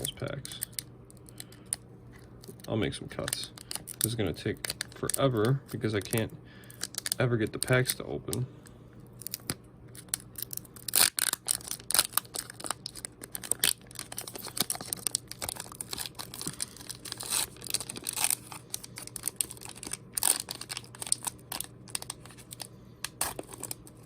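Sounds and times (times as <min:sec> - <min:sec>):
foil wrapper crinkling and tearing: 0:02.2 - 0:08.4, 0:09.2 - 0:24.0.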